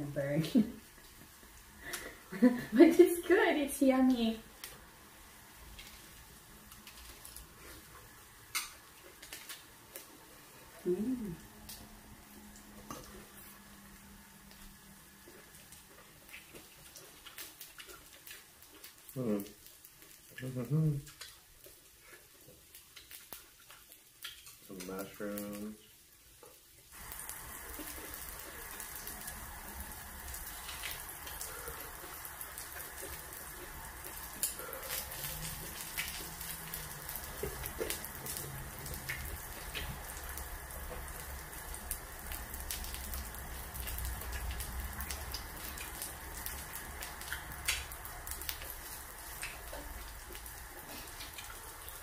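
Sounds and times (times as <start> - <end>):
meat sizzling on a griddle: 4.1 - 52.0.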